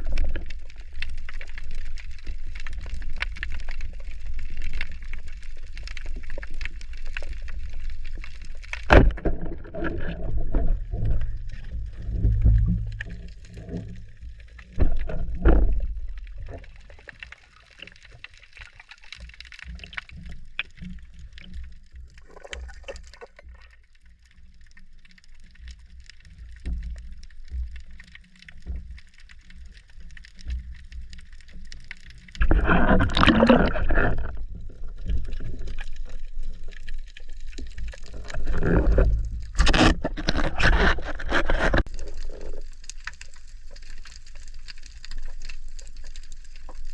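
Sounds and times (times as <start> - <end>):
rushes of water: 0.0 - 46.9
water sloshing and gurgling: 0.0 - 46.9.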